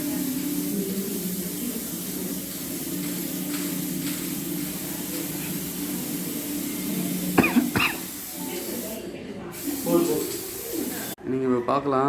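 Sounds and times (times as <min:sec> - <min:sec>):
compressed air hissing: 0:00.0 - 0:11.2.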